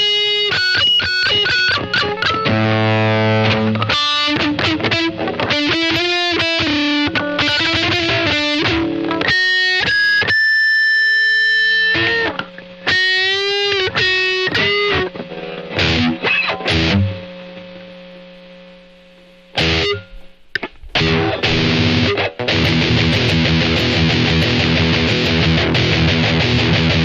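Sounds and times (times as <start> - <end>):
distorted electric guitar: 0.0 - 27.0.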